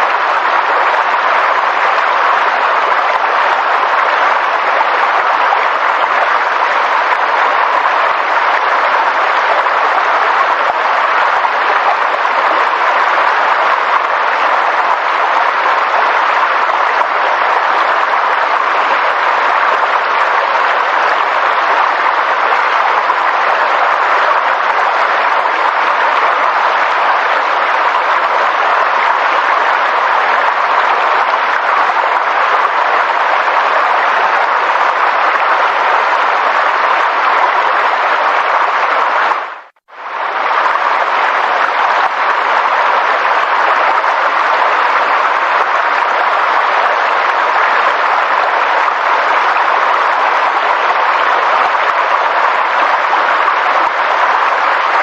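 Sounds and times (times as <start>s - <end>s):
dense rushing nature ambience: 0.0s - 55.0s.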